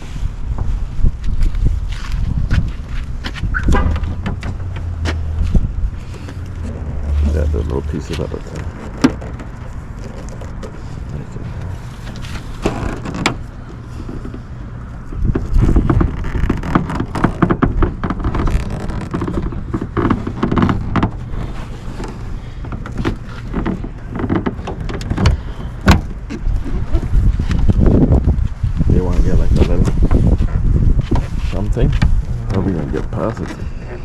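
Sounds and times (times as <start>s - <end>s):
low rumble: 0.0s - 24.2s, 25.3s - 34.0s.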